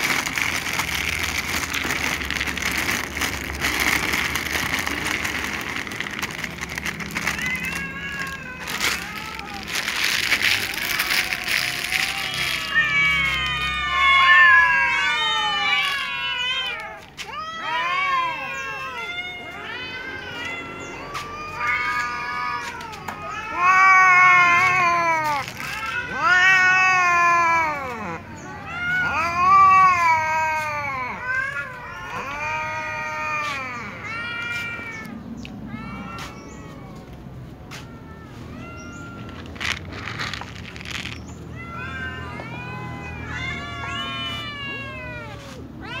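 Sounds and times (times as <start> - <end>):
cats meowing: 0.0 - 46.0.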